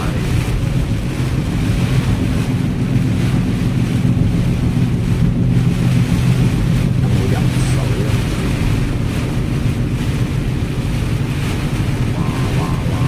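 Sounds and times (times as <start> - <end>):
car engine and road hum: 0.0 - 13.0
heavy rain: 0.0 - 13.0
wind noise: 0.0 - 13.0.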